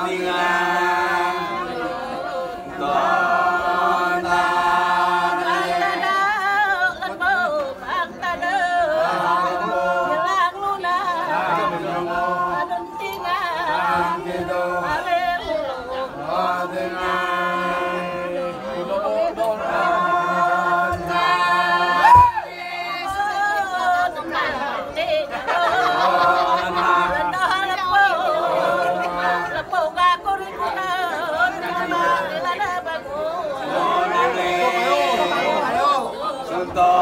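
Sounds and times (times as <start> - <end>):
group chanting unaccompanied: 0.0 - 37.0.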